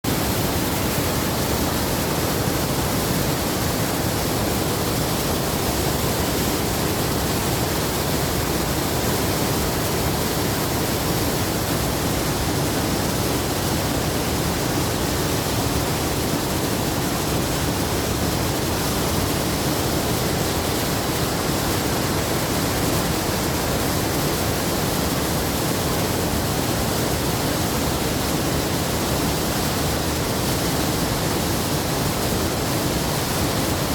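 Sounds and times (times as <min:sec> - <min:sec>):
waterfall crashing: 0:00.0 - 0:33.9.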